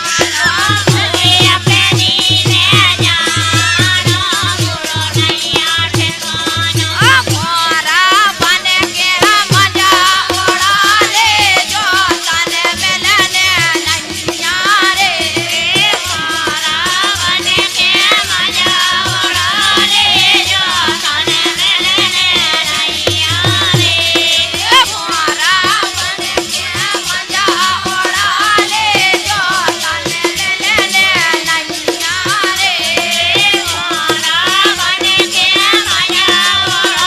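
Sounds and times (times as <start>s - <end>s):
shaken rattle beat: 0.0s - 37.0s.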